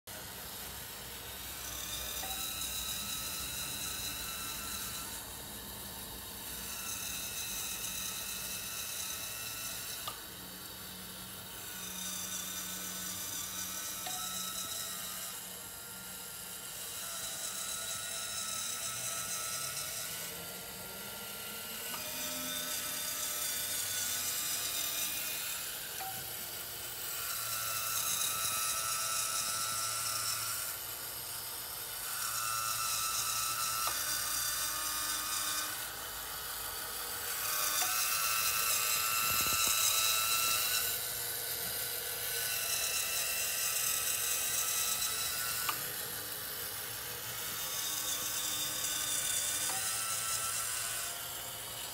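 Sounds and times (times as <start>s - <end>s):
small electric motors whining: 0.1s - 51.9s.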